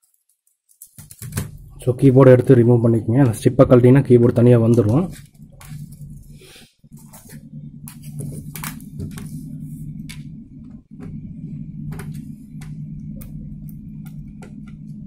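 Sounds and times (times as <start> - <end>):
steady low hum: 1.0 - 15.0.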